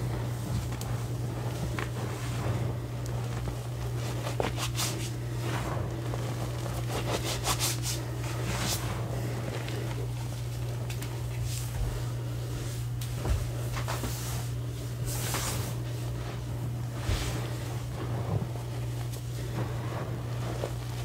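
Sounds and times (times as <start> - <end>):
hands rubbing powdered chalk: 0.0 - 21.0
steady low hum: 0.0 - 21.0.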